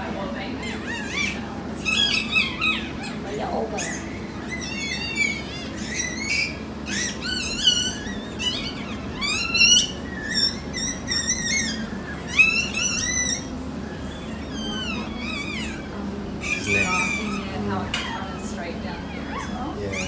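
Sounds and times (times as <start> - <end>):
puppies squealing: 0.0 - 20.0.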